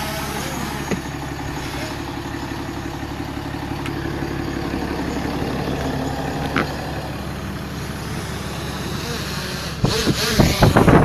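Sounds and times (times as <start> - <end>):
car engine hum with road noise: 0.0 - 11.0.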